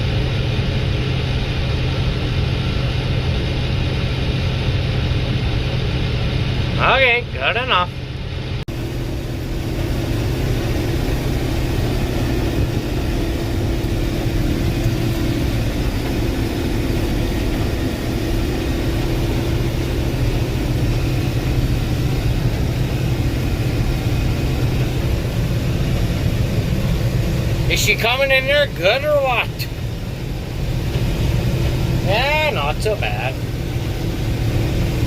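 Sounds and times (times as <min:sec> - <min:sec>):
combine harvester engine drone: 0:00.0 - 0:35.0.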